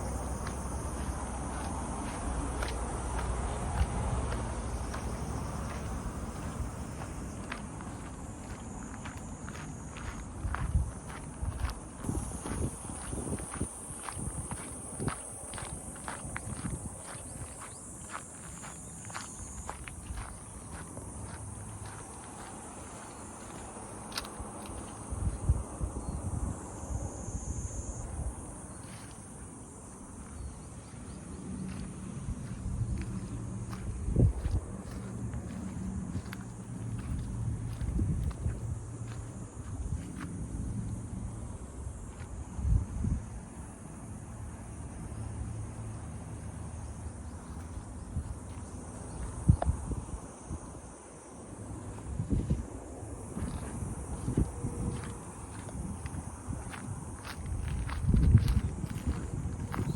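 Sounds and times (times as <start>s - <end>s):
wind rumble on microphone: 0.0s - 44.9s, 46.8s - 51.0s, 51.6s - 59.9s
insects chirring: 0.0s - 59.9s.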